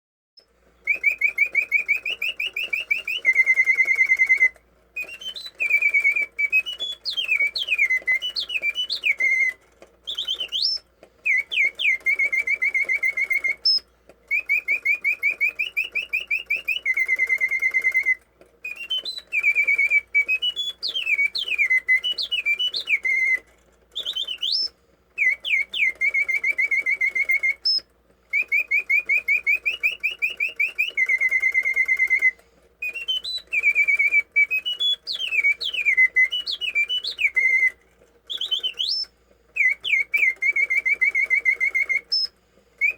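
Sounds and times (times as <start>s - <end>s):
birds singing trills and chirps: 0.9s - 23.4s, 24.0s - 42.9s.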